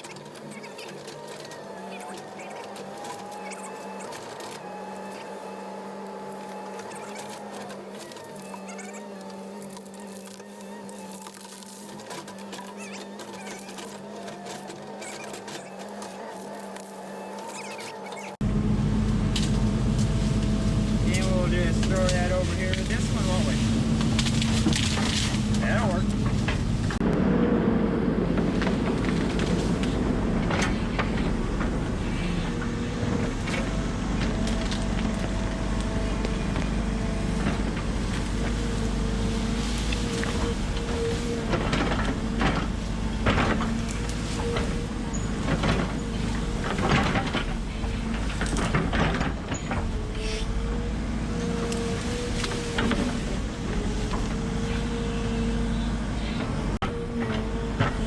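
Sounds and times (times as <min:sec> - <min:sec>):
wood cracking and breaking: 0:00.0 - 0:18.4, 0:23.9 - 0:27.0, 0:28.3 - 0:55.1
excavator diesel engine running: 0:00.0 - 0:58.0.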